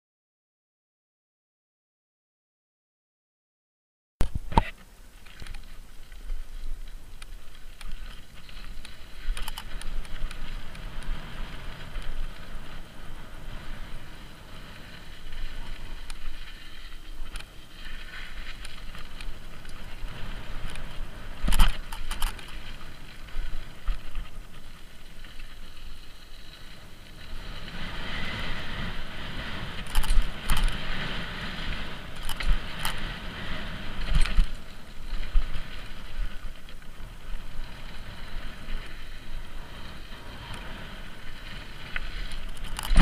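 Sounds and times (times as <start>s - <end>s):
bike rattling: 4.2s - 43.0s
wind on microphone: 4.2s - 43.0s.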